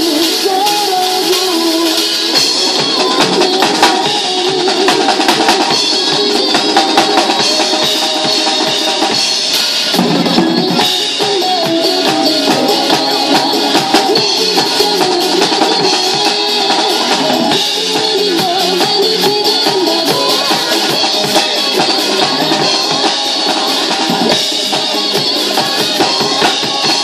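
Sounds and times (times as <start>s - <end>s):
drum kit playing: 0.0s - 27.0s
recorded pop song: 0.0s - 27.0s.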